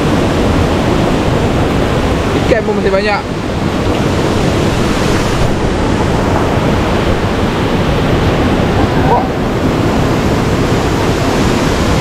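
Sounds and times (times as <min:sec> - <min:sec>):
small waterfall: 0:00.0 - 0:12.0
stream water rushing over rocks: 0:00.0 - 0:12.0.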